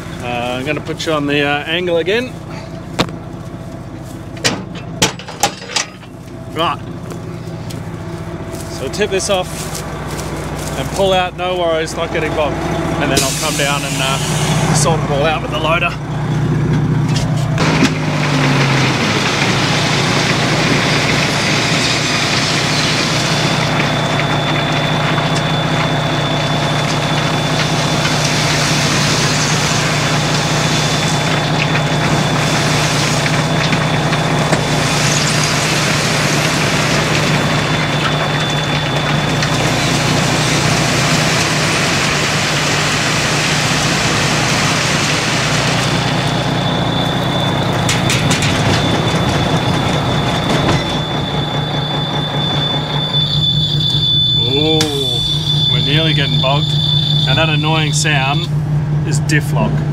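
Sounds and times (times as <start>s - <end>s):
high-pitched diff lock whine: 0.0s - 59.9s
truck engine under load: 0.0s - 59.9s.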